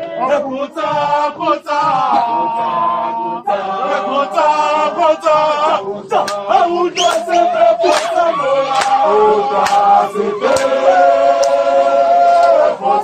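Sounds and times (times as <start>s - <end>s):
group of voices chanting: 0.0s - 13.0s.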